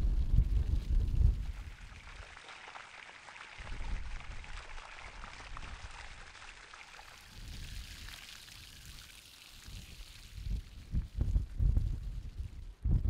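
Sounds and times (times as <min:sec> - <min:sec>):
water gushing from hose into basin: 0:00.6 - 0:12.6.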